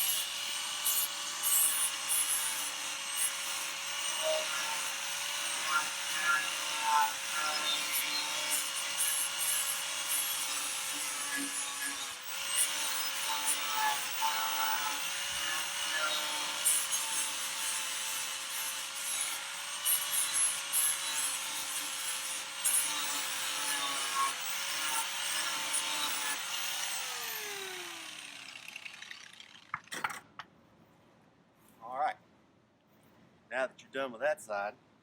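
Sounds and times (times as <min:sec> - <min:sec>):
angle grinder on metal: 0:00.0 - 0:30.1.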